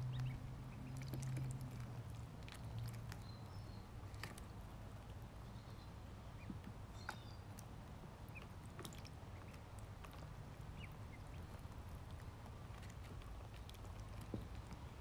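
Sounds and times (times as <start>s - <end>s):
ducklings peeping: 0.0s - 15.0s.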